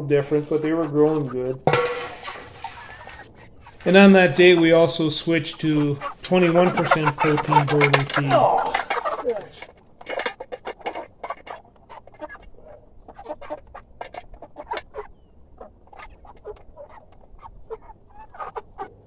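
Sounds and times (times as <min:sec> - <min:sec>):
chickens pecking metal trough: 0:01.1 - 0:12.5, 0:13.1 - 0:19.0.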